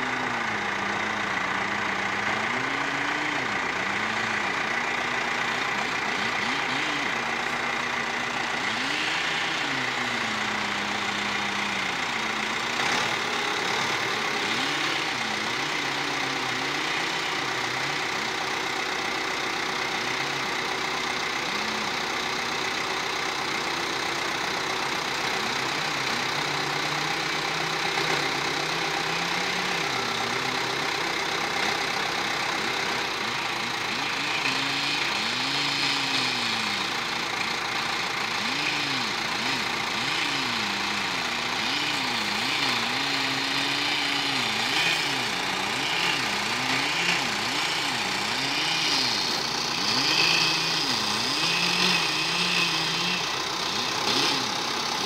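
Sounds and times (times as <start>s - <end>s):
chainsaw cutting wood: 0.0s - 18.8s, 19.6s - 55.0s.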